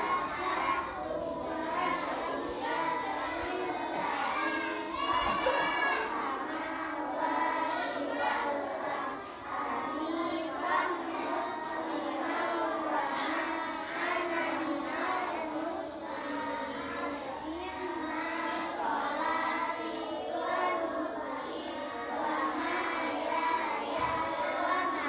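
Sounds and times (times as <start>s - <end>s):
children chanting a prayer: 0.0s - 25.0s.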